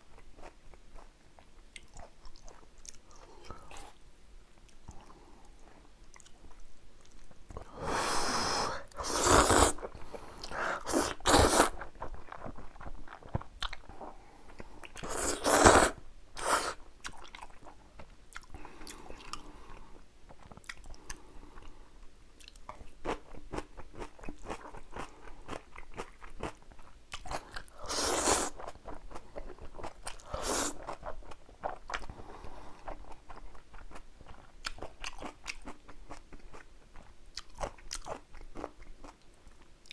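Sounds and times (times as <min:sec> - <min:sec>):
chewing with crunchy bites: 0:00.0 - 0:04.0, 0:04.6 - 0:07.8, 0:08.9 - 0:39.9.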